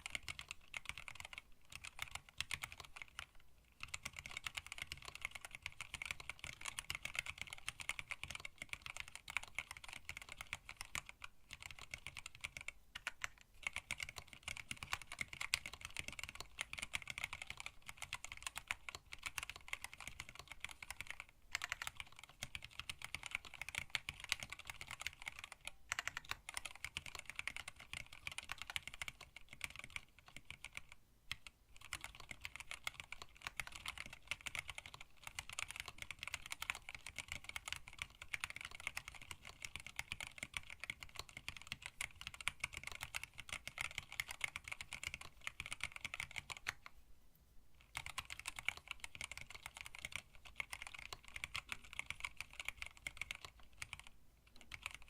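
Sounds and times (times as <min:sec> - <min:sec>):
mechanical keyboard typing: 0:00.0 - 0:46.9, 0:47.8 - 0:55.0.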